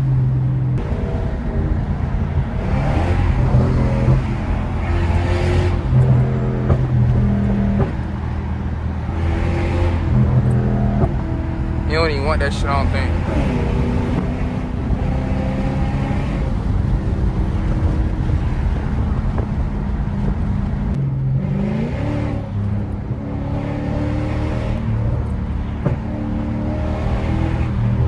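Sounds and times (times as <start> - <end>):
car engine droning and revving: 0.0 - 28.0.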